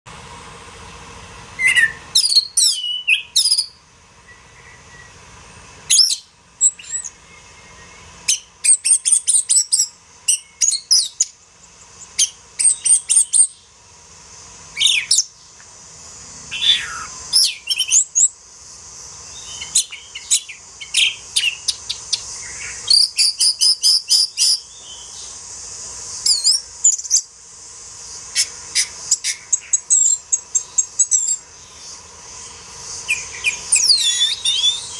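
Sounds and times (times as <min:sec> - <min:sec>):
steady high hiss: 0:00.1 - 0:34.9
songbird singing chirps and trills: 0:01.6 - 0:34.9.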